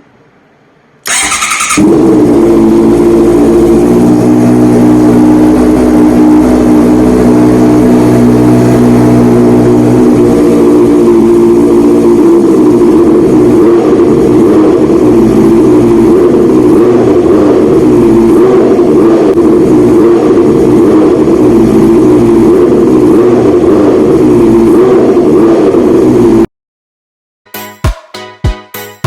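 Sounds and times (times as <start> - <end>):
motorcycle engine revving: 1.0 - 26.5.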